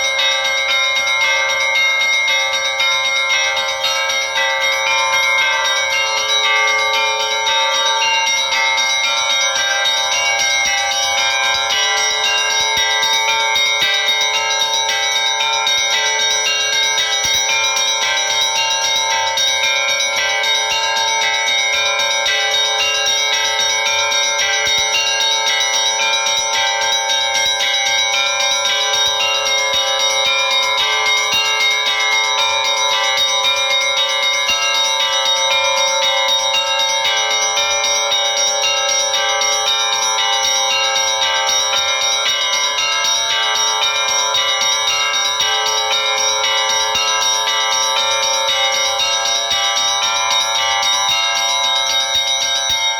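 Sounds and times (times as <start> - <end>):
church bells pealing: 0.0 - 52.9.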